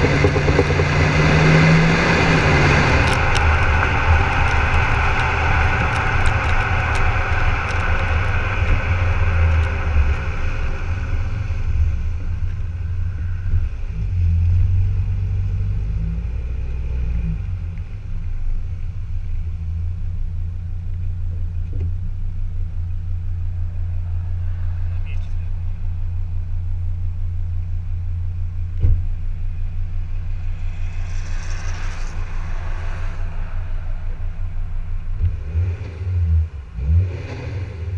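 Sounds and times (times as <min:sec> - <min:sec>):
diesel engine deep rumble: 0:00.0 - 0:37.9.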